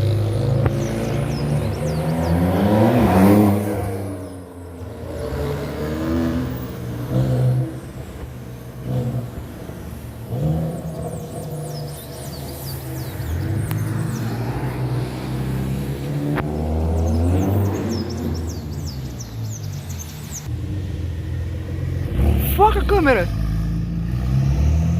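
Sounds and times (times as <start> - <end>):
car engine revving past: 0.0 - 22.6, 23.2 - 24.9
passing traffic: 0.0 - 24.9.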